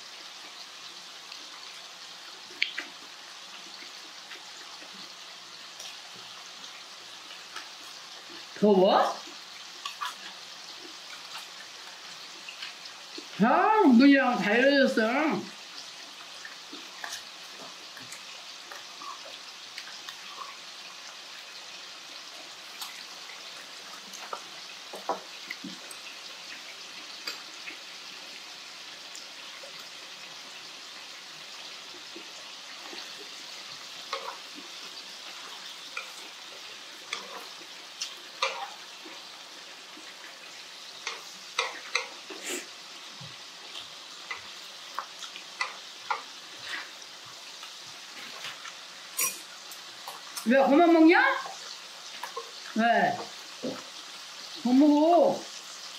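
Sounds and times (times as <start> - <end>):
duck sizzling in a pan: 0.0 - 55.9.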